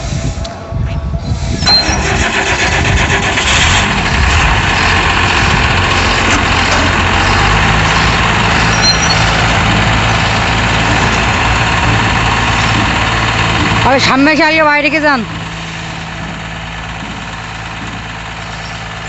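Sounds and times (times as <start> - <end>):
diesel engine starting and idling: 0.0 - 19.0.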